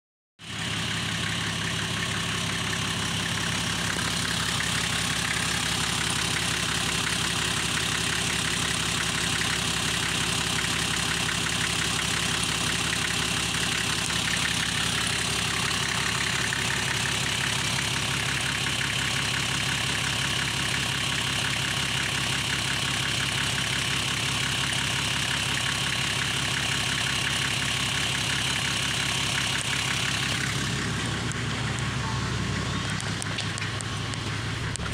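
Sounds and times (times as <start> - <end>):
diesel engine idling: 0.4 - 34.9.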